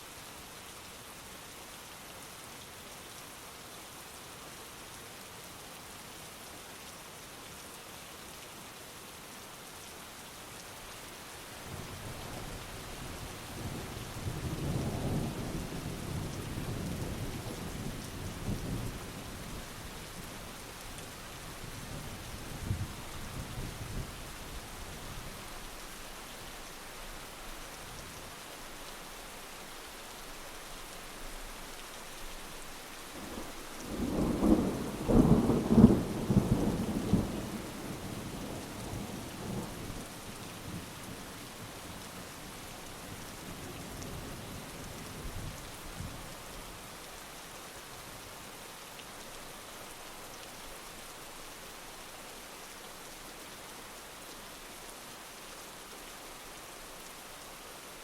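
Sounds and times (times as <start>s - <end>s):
heavy steady rain: 0.0s - 58.0s.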